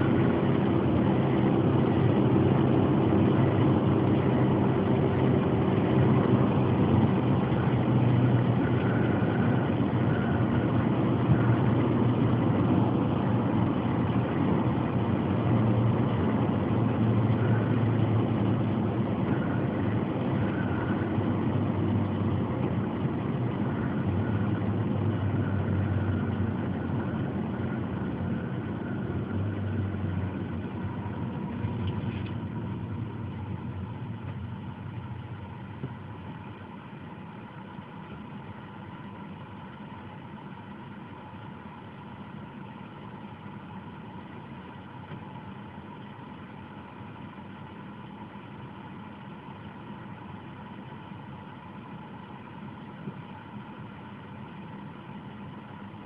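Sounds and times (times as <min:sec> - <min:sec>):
car engine running and idling: 0:00.0 - 0:56.0.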